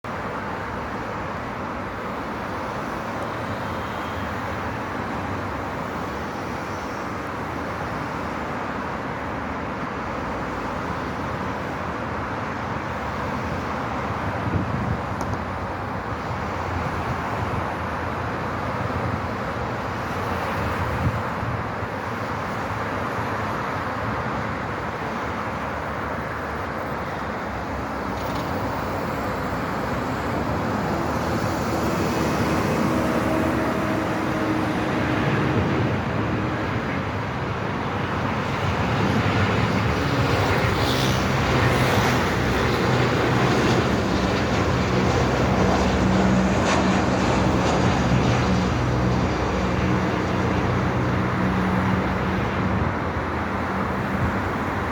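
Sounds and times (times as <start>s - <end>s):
jet engines rushing: 0.2s - 54.9s.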